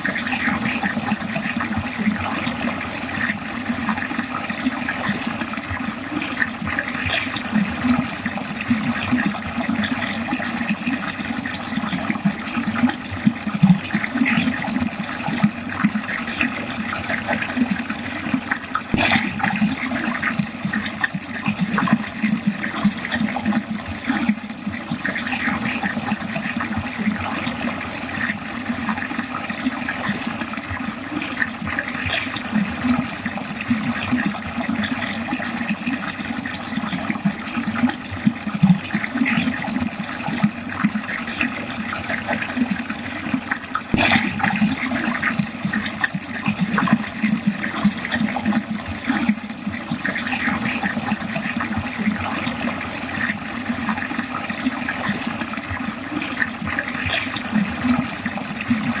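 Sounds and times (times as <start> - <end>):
water running down a drain: 0.0 - 59.0.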